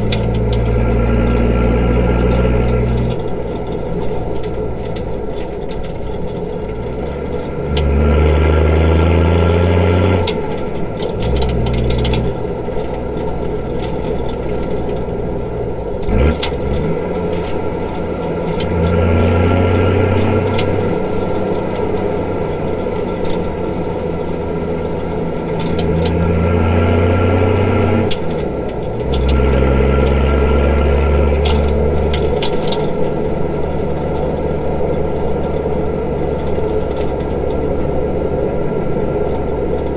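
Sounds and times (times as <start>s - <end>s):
diesel engine exhaust under load: 0.0s - 39.9s.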